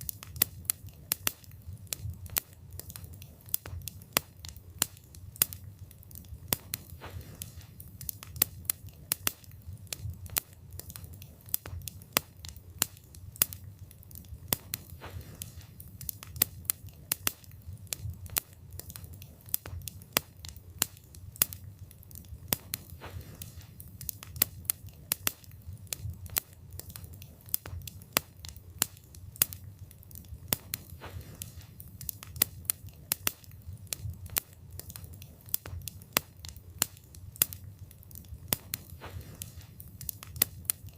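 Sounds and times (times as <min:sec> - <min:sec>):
burning wood crackling and popping: 0:00.0 - 0:40.9
wood fire rumbling: 0:00.0 - 0:40.9.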